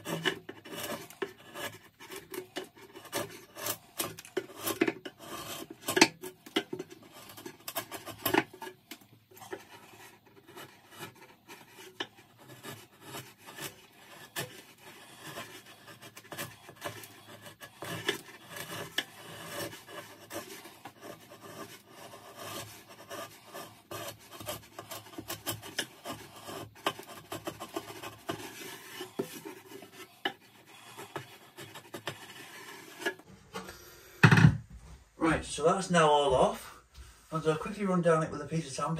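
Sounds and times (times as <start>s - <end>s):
wood chisel scraping wood: 0.0s - 36.6s.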